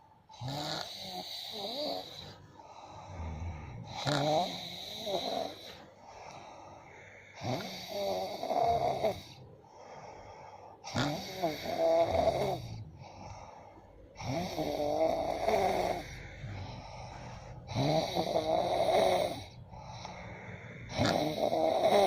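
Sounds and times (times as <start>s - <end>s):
quiet breathing: 0.0s - 22.0s
person snoring heavily: 0.3s - 9.4s, 10.8s - 22.0s.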